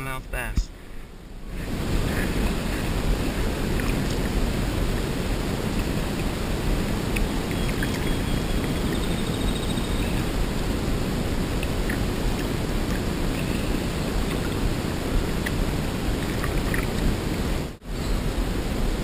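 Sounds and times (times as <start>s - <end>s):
wind buffeting microphone: 1.2s - 19.0s.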